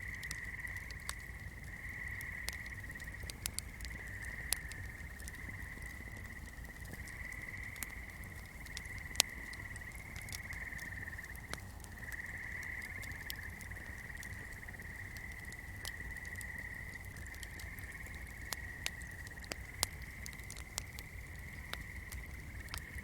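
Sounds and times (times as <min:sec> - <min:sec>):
fire crackling: 0:00.0 - 0:23.0
frogs trilling: 0:00.0 - 0:23.0.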